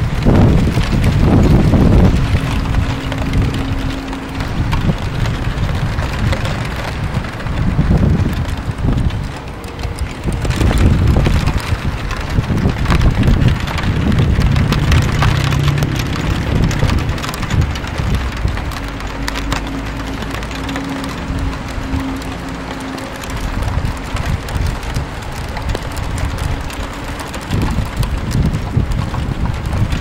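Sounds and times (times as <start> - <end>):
low rumble: 0.0 - 30.0
raindrops ticking on roof and window: 0.0 - 30.0
steady rain falling: 0.0 - 30.0.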